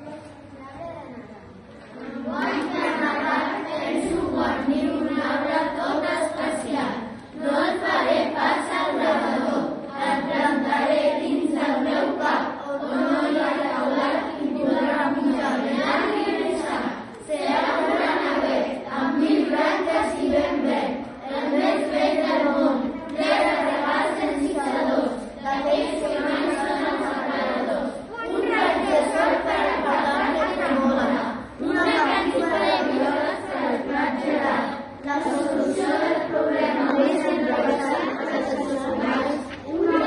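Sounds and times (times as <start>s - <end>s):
children chanting in unison: 2.0s - 40.0s.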